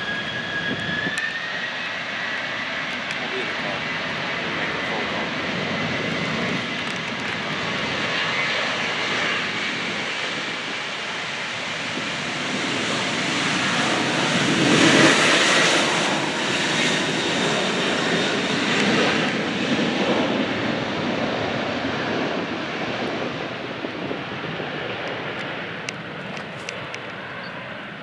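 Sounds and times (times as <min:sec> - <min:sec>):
airplane engines passing: 0:00.0 - 0:28.0.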